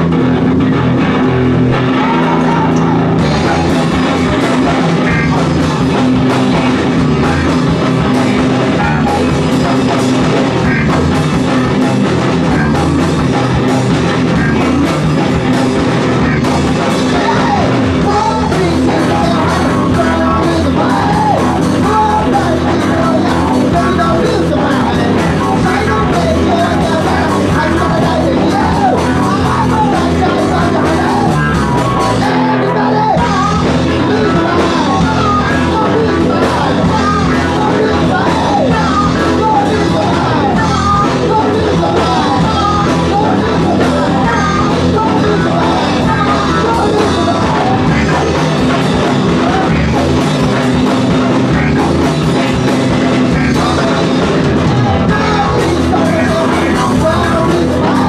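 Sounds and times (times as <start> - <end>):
drum kit: 0.0 - 58.0
electric guitars: 0.0 - 58.0
man singing: 0.0 - 58.0.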